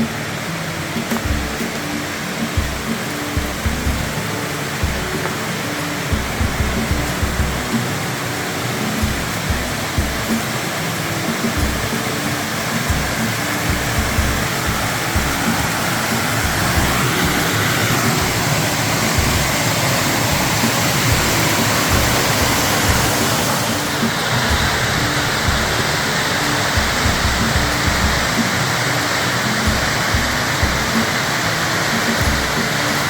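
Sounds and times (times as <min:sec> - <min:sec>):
background music: 0:00.0 - 0:33.0
waterfall rushing: 0:00.0 - 0:33.0.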